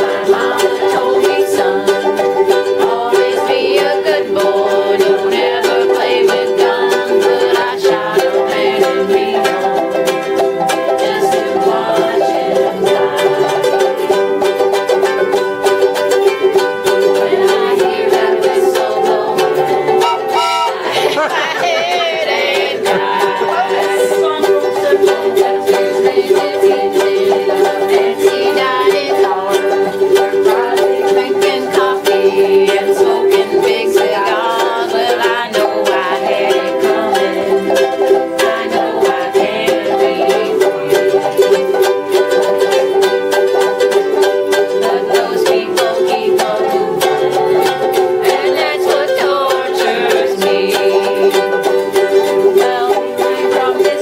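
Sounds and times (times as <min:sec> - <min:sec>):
ukulele strumming: 0:00.0 - 0:54.0.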